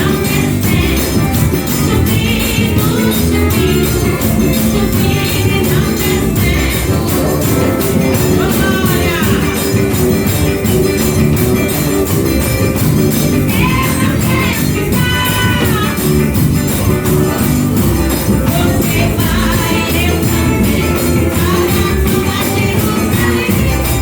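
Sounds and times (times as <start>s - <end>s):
person singing: 0.0s - 12.0s, 13.1s - 24.0s
live gospel music: 0.0s - 24.0s
steady percussion beat: 0.0s - 24.0s.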